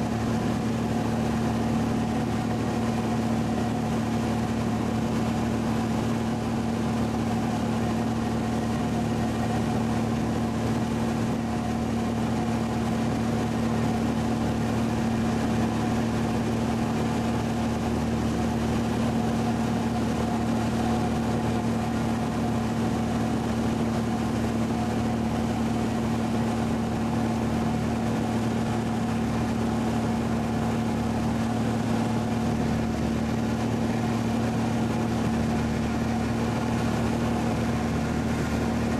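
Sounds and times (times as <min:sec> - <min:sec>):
light airplane engine droning: 0:00.0 - 0:38.9.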